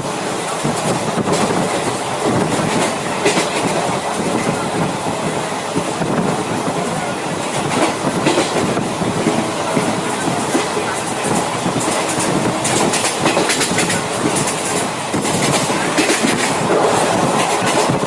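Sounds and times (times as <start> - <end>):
train wheels rumbling on rails: 0.0 - 18.0
clacks over rail joints: 0.4 - 18.0.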